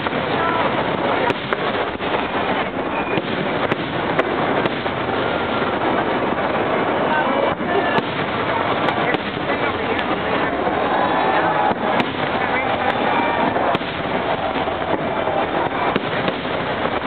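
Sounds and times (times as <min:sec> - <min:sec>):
crowd noise: 0:00.0 - 0:17.0
fireworks bangs: 0:00.0 - 0:17.0
voices in crowd: 0:00.0 - 0:17.0.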